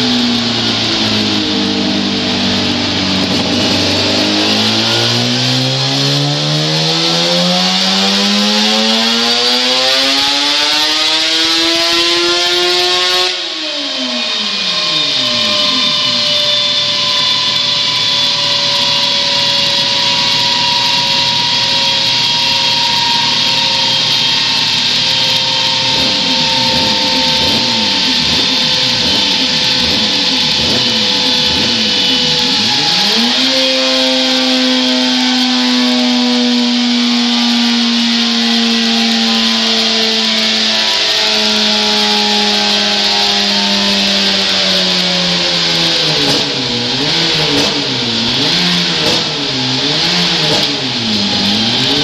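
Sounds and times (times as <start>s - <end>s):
motorcycle engine revving: 0.0s - 52.0s
steady whine: 0.0s - 52.0s.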